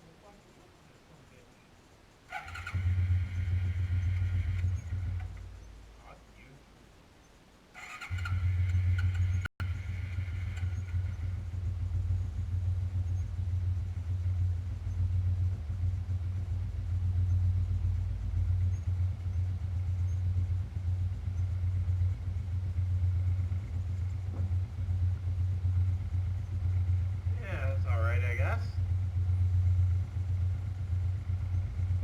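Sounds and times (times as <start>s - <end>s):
quad bike engine idling: 0.1s - 6.6s, 7.8s - 32.0s.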